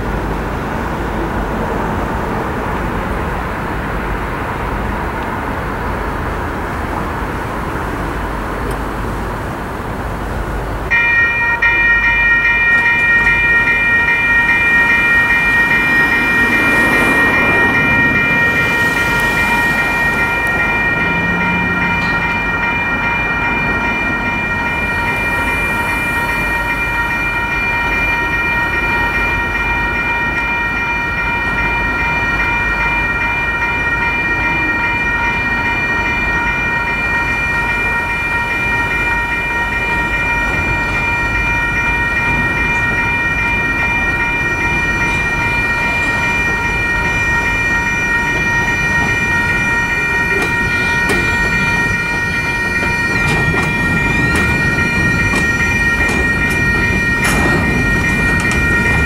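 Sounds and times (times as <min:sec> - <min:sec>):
railroad crossing bell ringing: 0:02.0 - 0:59.0.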